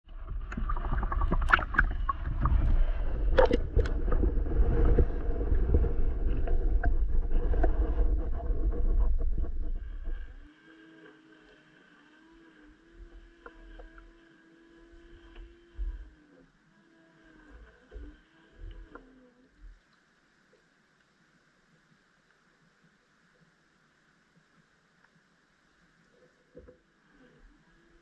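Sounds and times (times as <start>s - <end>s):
underwater low rumble: 0.0s - 10.5s, 11.8s - 28.0s
faint steady hum: 0.0s - 28.0s.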